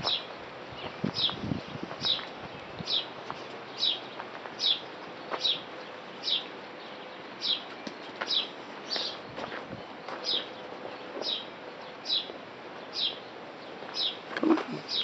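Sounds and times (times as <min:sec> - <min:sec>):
high downward-sliding bird chirp: 0:00.0 - 0:15.0.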